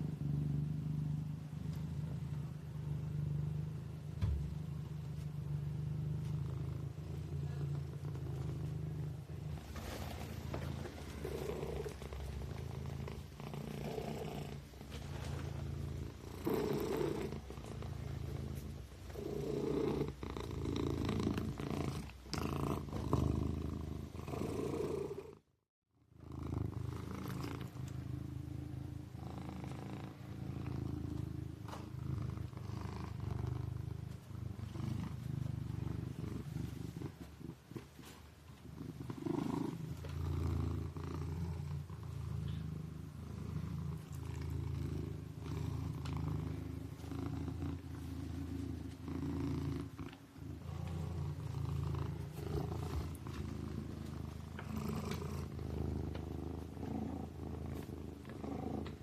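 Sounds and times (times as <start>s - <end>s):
kitten purring: 0.0s - 25.5s, 26.1s - 59.0s.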